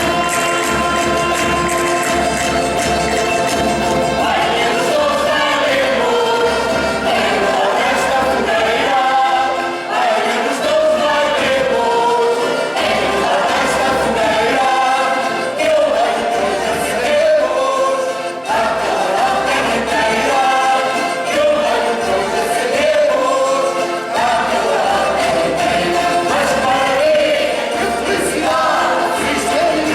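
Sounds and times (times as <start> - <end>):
group singing folk carol: 0.0 - 29.9.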